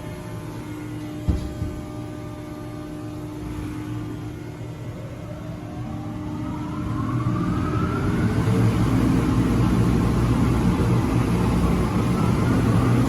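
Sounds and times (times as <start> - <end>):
machine whine and rumble: 0.0 - 13.0.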